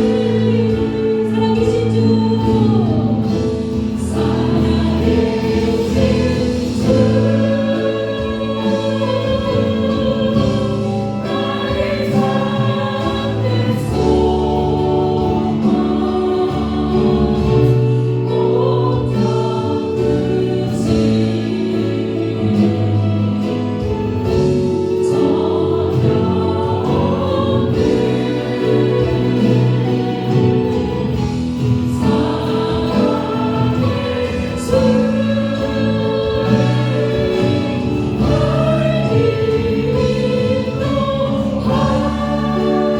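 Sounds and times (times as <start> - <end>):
worship band and singers: 0.0 - 42.9.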